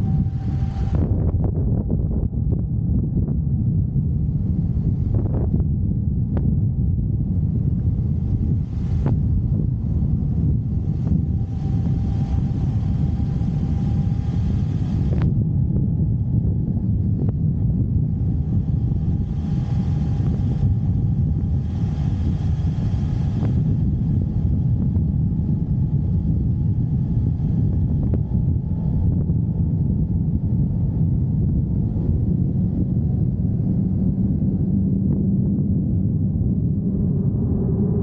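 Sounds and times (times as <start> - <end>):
motorcycle engine rumble: 0.0 - 37.0
wind noise: 0.0 - 38.0.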